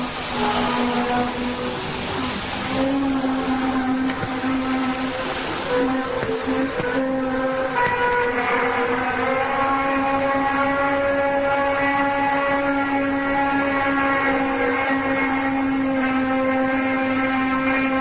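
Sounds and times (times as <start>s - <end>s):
loud low droning hum: 0.0s - 18.0s.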